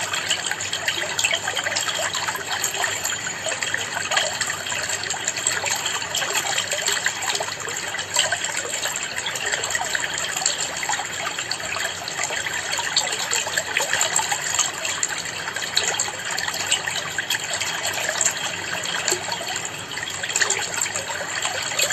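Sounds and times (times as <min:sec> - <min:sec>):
water trickling and splashing: 0:00.0 - 0:21.9.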